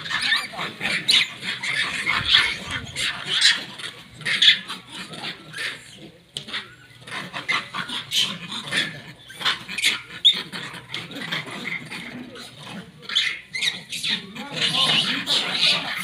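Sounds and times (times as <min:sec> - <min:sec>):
monkeys squeaking and crying: 0:00.0 - 0:16.0.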